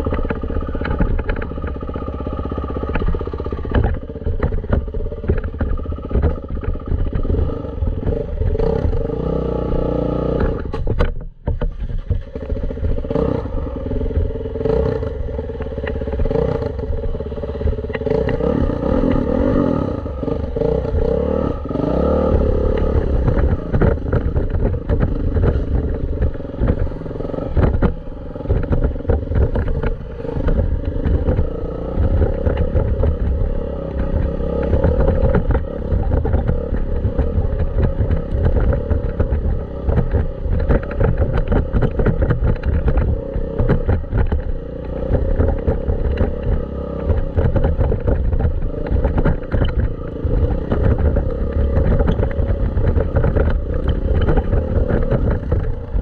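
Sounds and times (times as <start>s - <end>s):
clatter and knocks: 0.0s - 9.1s, 10.4s - 13.3s, 20.1s - 56.0s
dirt bike engine revving: 0.0s - 10.8s, 11.7s - 56.0s.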